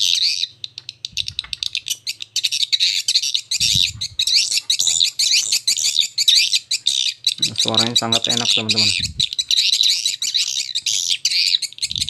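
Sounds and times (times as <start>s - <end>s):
shrill bird twittering through speakers: 0.0s - 12.0s.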